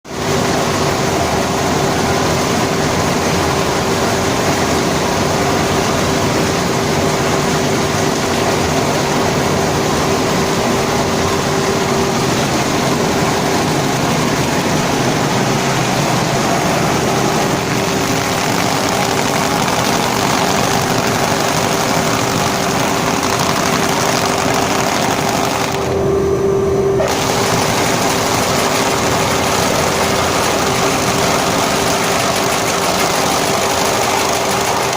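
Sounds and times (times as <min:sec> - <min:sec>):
carpet beating machine running: 0:00.1 - 0:34.9.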